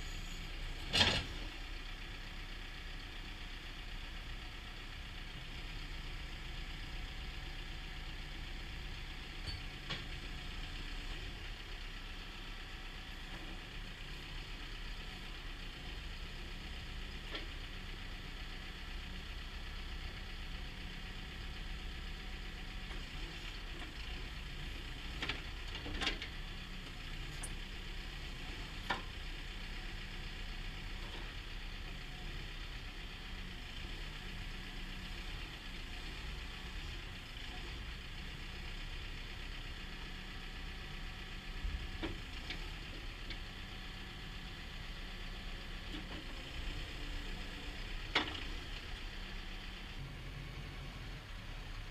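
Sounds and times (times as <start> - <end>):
diesel engine idling: 0.0 - 25.6, 26.3 - 51.9.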